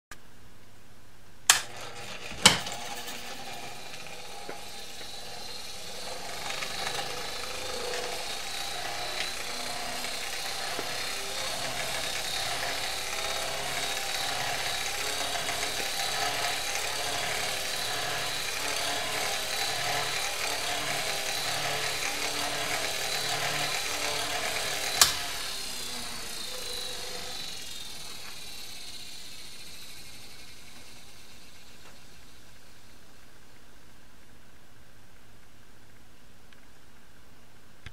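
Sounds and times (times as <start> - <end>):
electric fan motor whirring: 1.5 - 33.5.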